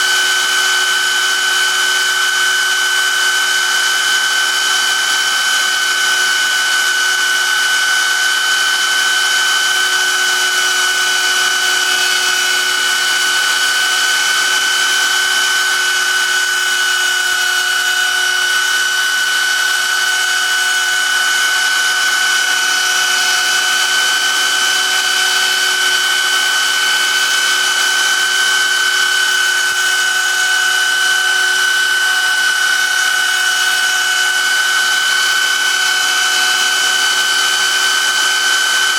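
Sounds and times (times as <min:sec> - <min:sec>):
spindle motor high-pitched whine: 0:00.0 - 0:38.9.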